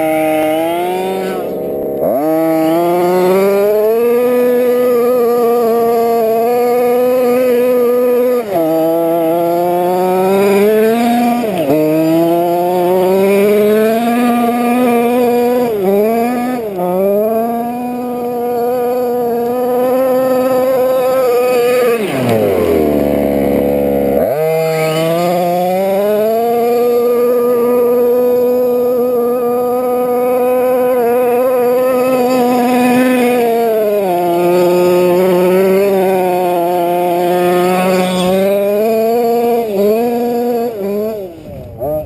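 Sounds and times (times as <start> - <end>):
two-stroke engine revving: 0.0 - 42.0.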